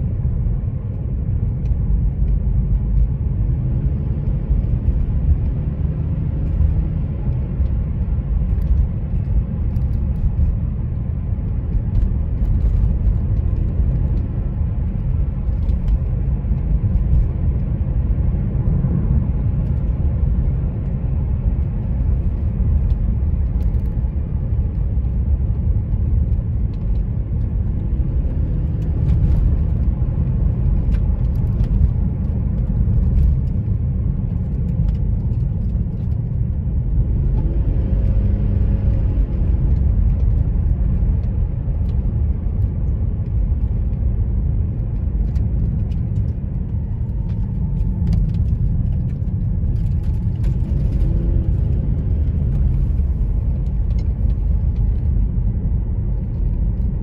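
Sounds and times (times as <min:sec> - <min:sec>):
car tyres and engine rumble: 0:00.0 - 0:57.0.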